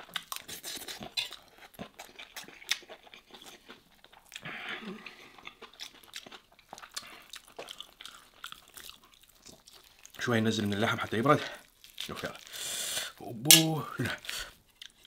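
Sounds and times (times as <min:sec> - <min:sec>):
close chewing and mouth sounds: 0:00.0 - 0:15.0.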